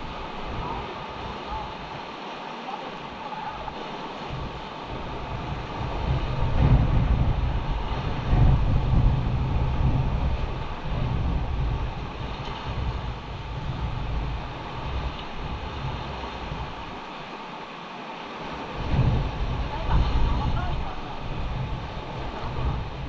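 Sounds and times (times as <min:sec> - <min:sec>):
surf washing over rocks: 0:00.0 - 0:23.0
wind buffeting microphone: 0:00.0 - 0:23.0.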